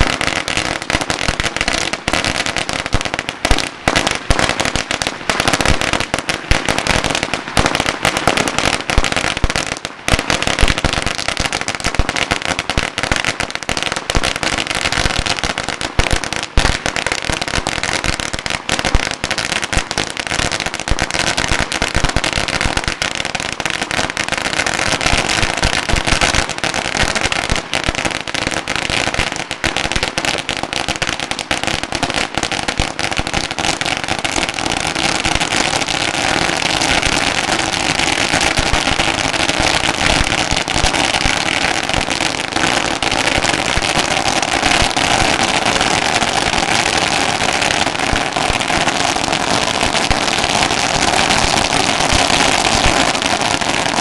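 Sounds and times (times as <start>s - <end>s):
firecrackers going off: 0.0s - 54.0s.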